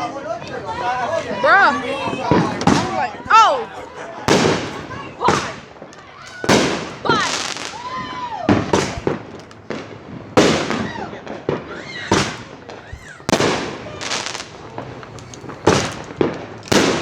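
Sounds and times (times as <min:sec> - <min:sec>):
fireworks banging: 0:00.0 - 0:17.0
fireworks whistling: 0:00.0 - 0:17.0.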